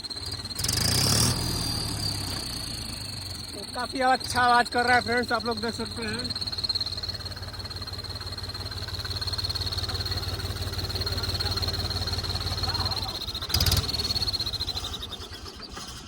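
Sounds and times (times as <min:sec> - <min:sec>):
exhaust whistle: 0:00.0 - 0:15.8
tractor diesel engine running: 0:00.0 - 0:16.0.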